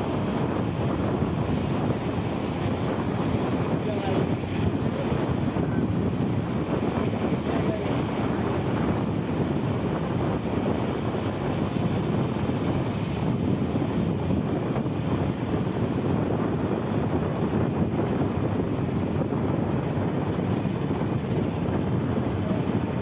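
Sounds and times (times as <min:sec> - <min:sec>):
choppy waves washing: 0:00.0 - 0:23.0
wind on microphone: 0:00.0 - 0:23.0.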